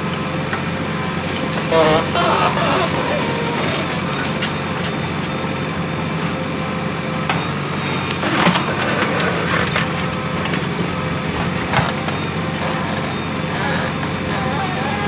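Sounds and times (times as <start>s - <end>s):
diesel engine running: 0.3s - 15.0s.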